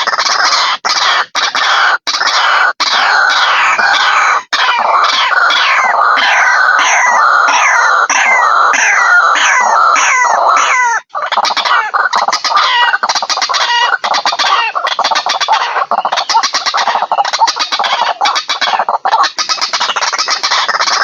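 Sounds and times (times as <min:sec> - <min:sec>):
waterhens harsh croaking calls: 0:00.0 - 0:21.0.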